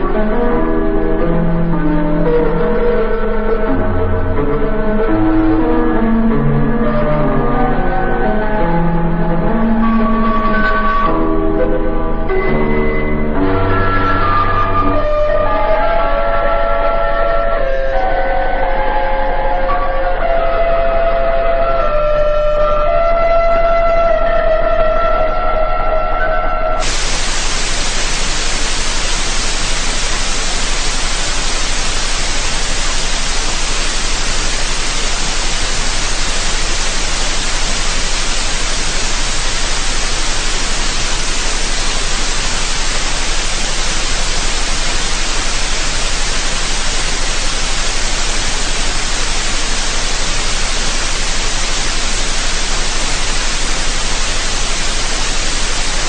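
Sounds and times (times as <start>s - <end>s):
loud static hiss: 0.0s - 25.7s, 26.6s - 56.0s.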